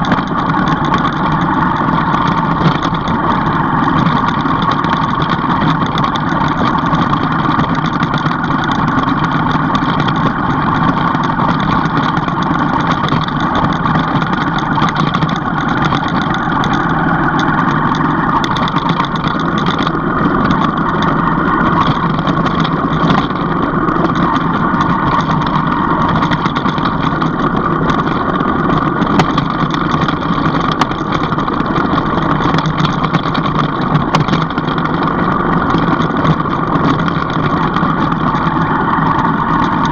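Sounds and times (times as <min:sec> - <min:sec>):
small knocks and rattles: 0:00.0 - 0:39.9
vehicle engine running: 0:00.0 - 0:39.9.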